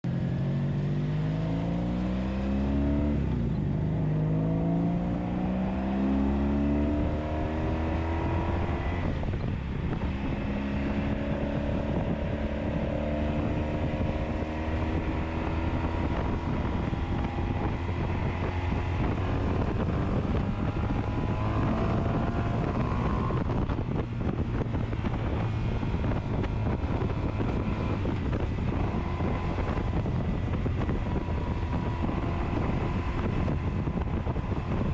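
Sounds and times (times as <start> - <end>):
motorcycle engine accelerating: 0.0 - 34.9
wind noise on microphone: 0.1 - 34.9.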